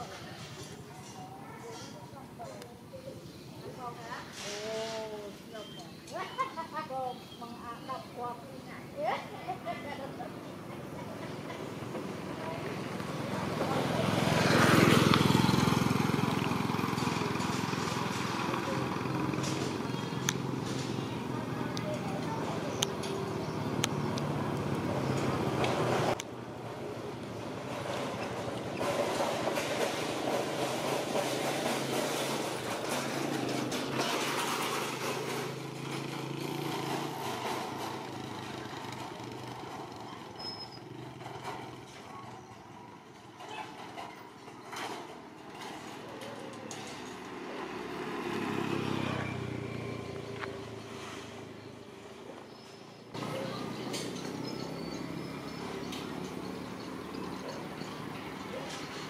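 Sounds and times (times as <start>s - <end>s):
motorbike engine passing by: 8.7s - 59.0s.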